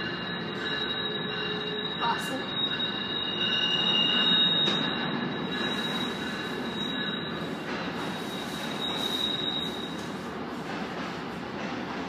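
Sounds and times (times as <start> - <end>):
high wheel squeal: 0.0 - 10.3
train wheels rumbling on rails: 0.0 - 12.0.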